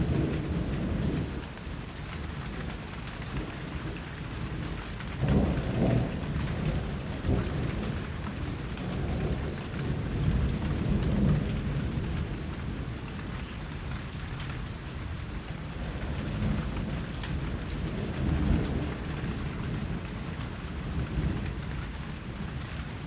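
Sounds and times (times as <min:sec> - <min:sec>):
low thunder rumbles: 0:00.0 - 0:23.0.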